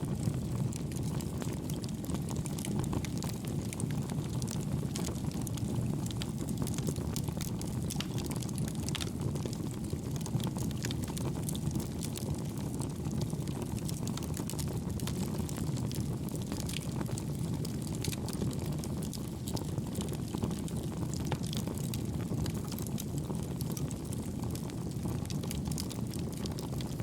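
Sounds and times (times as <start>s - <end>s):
burning wood crackling: 0.1s - 27.0s.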